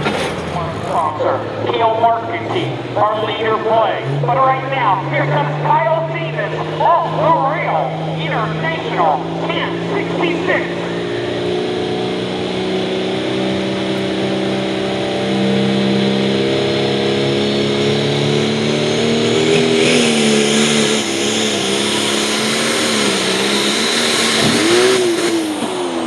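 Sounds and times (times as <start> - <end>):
diesel tractor engine under load: 0.0 - 26.0.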